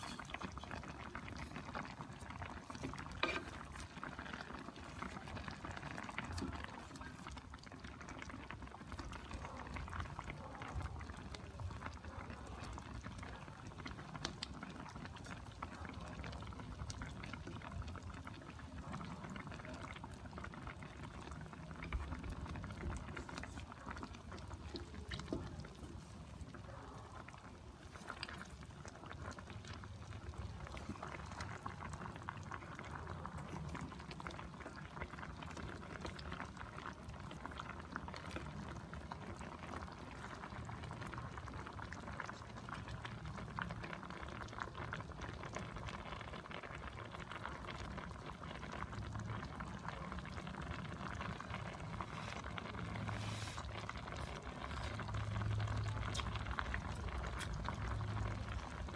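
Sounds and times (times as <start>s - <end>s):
sauce bubbling and crackling: 0.0s - 58.9s.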